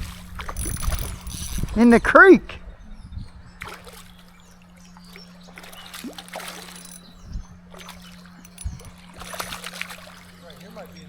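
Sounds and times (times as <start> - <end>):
creek water splashing: 0.0 - 2.4, 3.4 - 11.0
steady low hum: 0.0 - 11.0.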